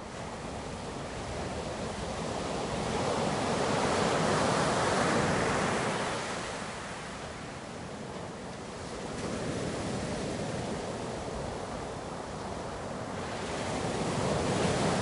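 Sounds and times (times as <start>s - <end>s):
ocean wave breaking and washing: 0.0s - 15.0s.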